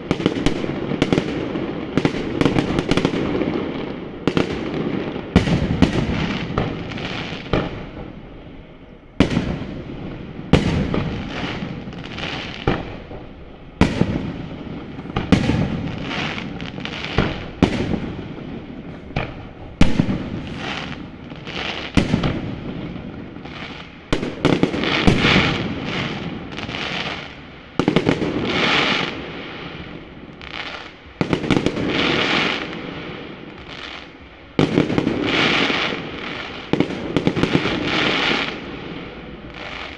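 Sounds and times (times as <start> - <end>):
firework shells bursting with bangs: 0.0 - 32.9
crackling firework bursts: 0.0 - 39.9.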